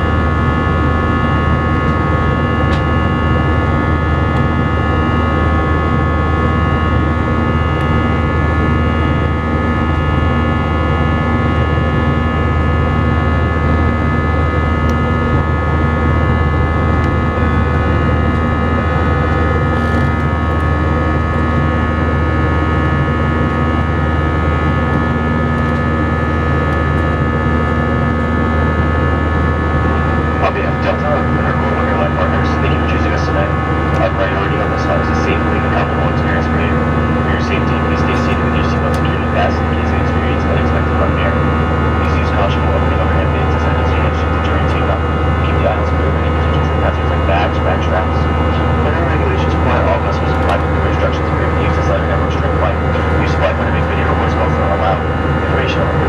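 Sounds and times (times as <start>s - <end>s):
jet engine drone: 0.0s - 56.0s
whining tones: 0.0s - 56.0s.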